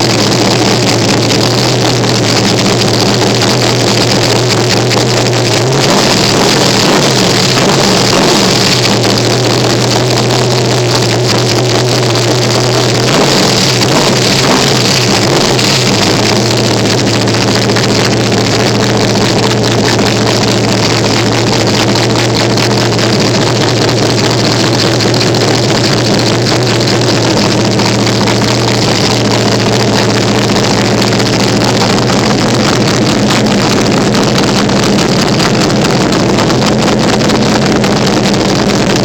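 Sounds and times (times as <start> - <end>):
loud engine idling: 0.0 - 39.0.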